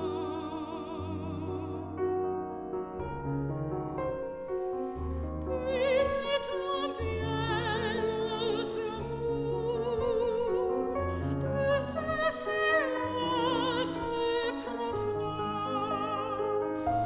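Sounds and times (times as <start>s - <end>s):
soprano singing with vibrato: 0.0s - 2.2s, 5.5s - 17.0s.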